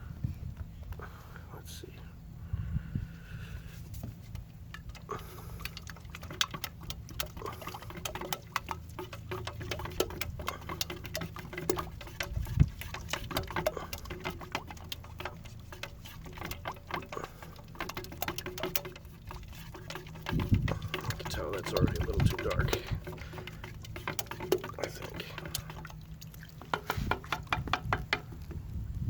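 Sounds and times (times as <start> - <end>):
steady low hum: 0.0 - 29.0
stirring clicks and scrapes in cup: 3.8 - 29.0.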